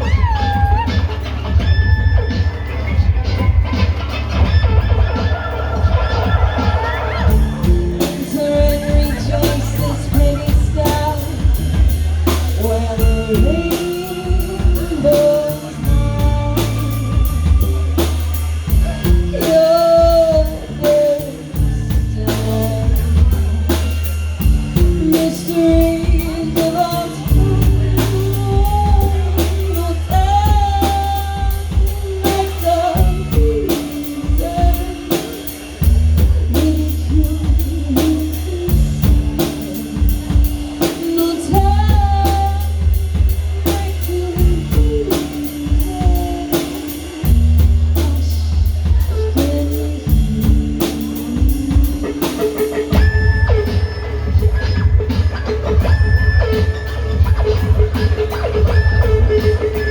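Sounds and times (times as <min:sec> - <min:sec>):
drums keeping steady beat: 0:00.0 - 0:59.9
live band playing: 0:00.0 - 0:59.9
person singing: 0:06.8 - 0:56.6.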